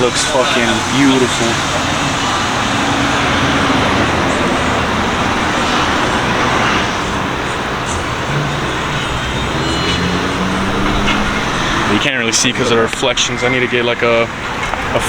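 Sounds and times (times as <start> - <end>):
car engines running: 0.0 - 15.0
road traffic: 0.0 - 15.0.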